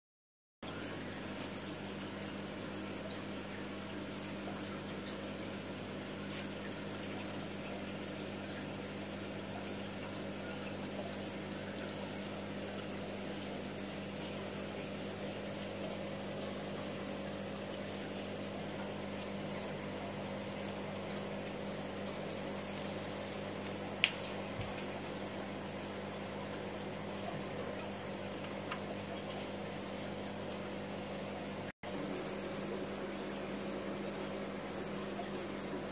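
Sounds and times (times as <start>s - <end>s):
aquarium filter running water: 0.6s - 35.9s.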